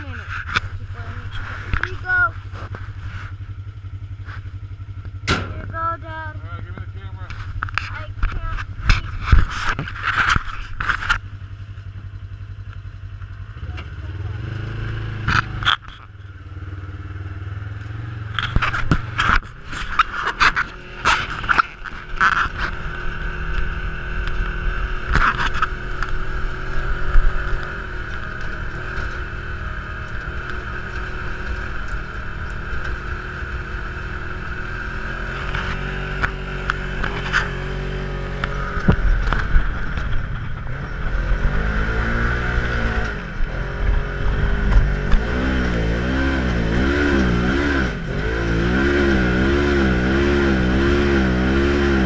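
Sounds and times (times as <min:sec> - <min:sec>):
utility vehicle engine running: 0:00.0 - 0:52.0.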